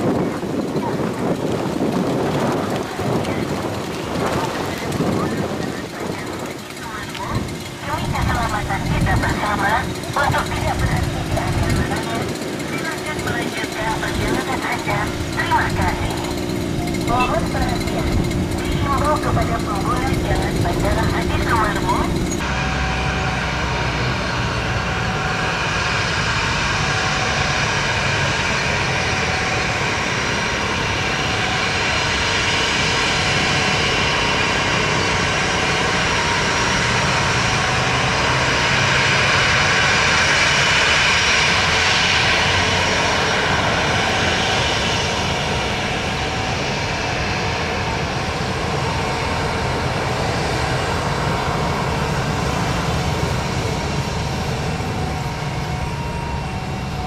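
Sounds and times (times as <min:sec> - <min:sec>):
jet engines hissing and whining: 0:00.0 - 0:57.0.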